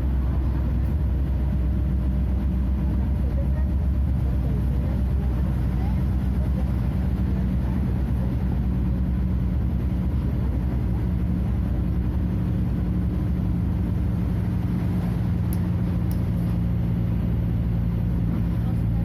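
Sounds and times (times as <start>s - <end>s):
diesel bus engine droning: 0.0s - 19.0s.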